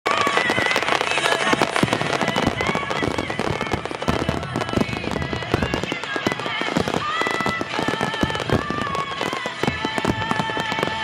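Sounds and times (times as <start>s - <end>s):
fireworks bangs and crackles: 0.1s - 11.0s.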